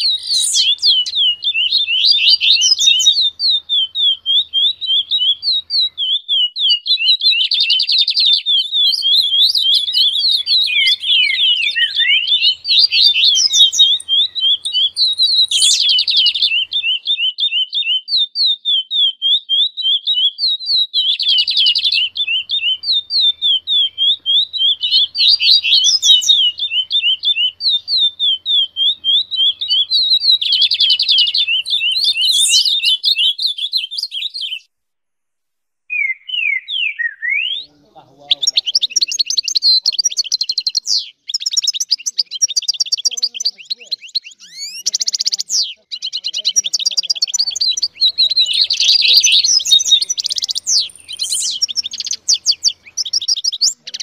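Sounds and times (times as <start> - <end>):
buzzy bird trill: 0.0 - 34.7, 36.0 - 54.0
songbirds chirping: 0.0 - 34.7, 35.9 - 54.0.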